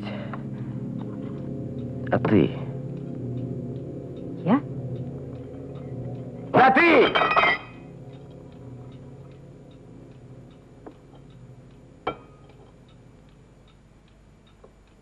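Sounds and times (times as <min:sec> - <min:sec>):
clock ticking: 0:00.1 - 0:15.0.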